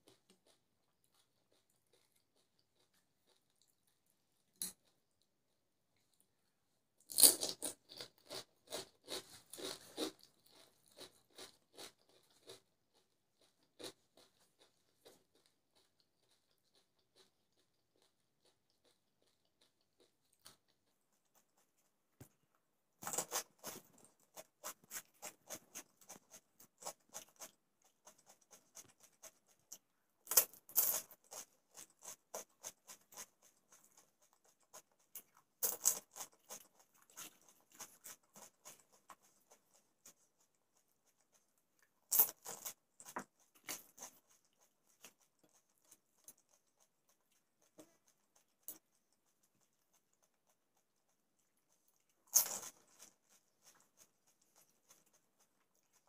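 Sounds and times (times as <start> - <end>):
wet chewing: 0.0 - 6.4, 7.0 - 56.0.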